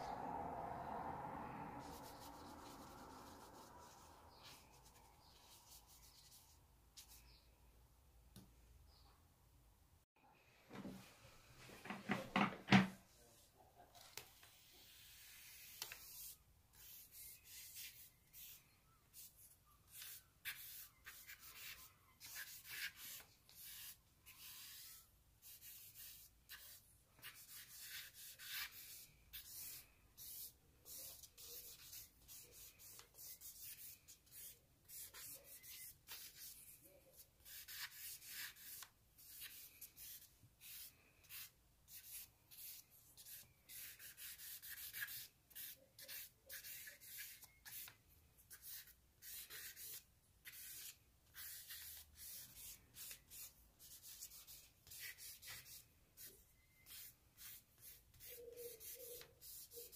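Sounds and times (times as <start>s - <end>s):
charcoal scratching on paper: 1.8s - 7.2s, 14.4s - 59.9s.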